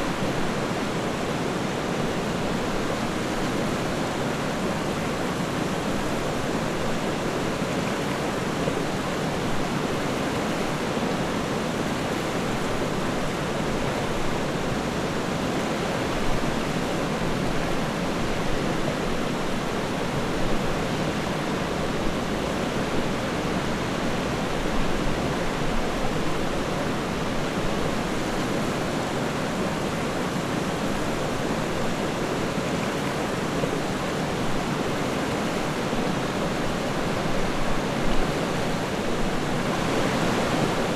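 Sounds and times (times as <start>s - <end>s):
river water flowing and babbling: 0.0s - 40.9s.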